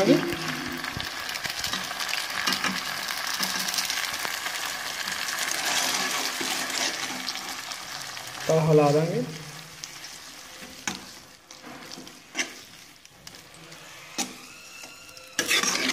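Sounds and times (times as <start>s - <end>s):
noodles sizzling in a hot pan: 0.0s - 15.9s.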